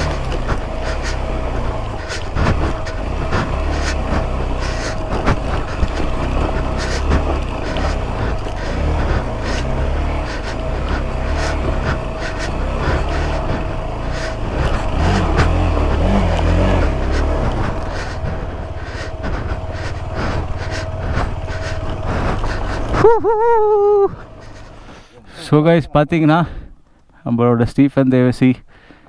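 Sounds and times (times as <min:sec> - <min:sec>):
engine rumbling: 0:00.0 - 0:29.0.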